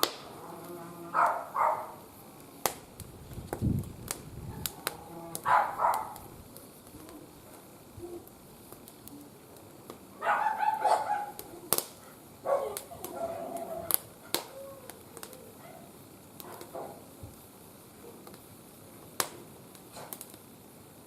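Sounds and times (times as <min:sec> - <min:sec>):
burning wood popping: 0:00.0 - 0:21.0.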